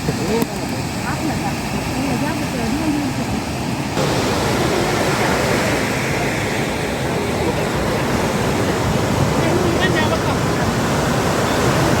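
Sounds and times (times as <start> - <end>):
faint voices: 0.0 - 12.0
sea surf on beach: 0.0 - 12.0.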